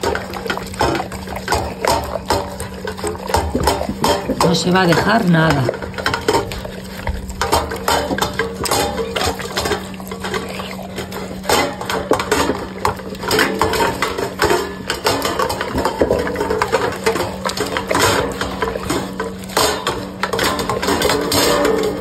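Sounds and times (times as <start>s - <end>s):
dog licking food bowl: 0.0s - 22.0s
metal bowl clanking: 0.0s - 22.0s
steady low hum: 0.0s - 22.0s.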